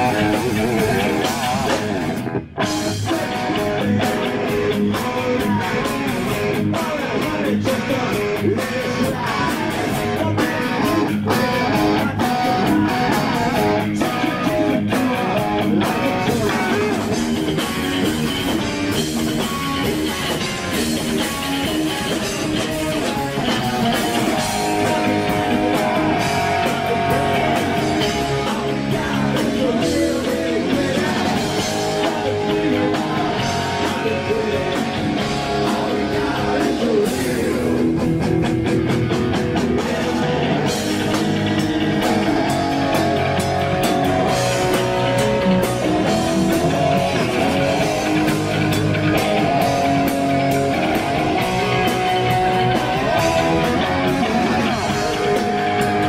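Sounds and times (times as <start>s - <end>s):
electric guitar: 0.0s - 56.0s
rock band playing live: 0.0s - 56.0s.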